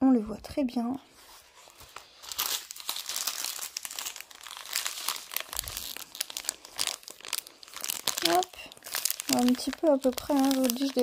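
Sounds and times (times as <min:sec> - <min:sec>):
plastic packaging crinkling: 0:01.1 - 0:11.0.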